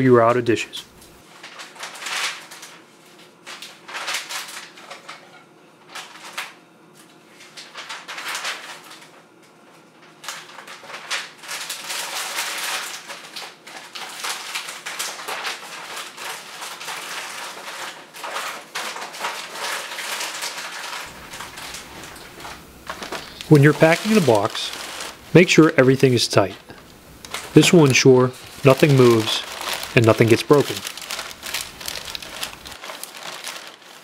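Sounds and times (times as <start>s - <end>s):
packing paper rustling: 0.9s - 6.6s, 7.3s - 9.2s, 10.0s - 34.0s.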